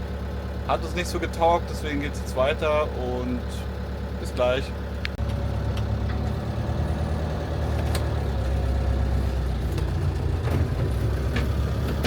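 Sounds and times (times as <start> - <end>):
diesel engine idling rumble: 0.0 - 12.0.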